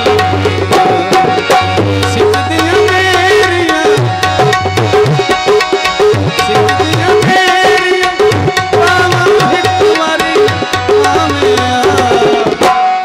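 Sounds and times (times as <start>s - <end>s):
melodic instrument playing tune: 0.0s - 13.0s
tabla playing: 0.0s - 13.0s.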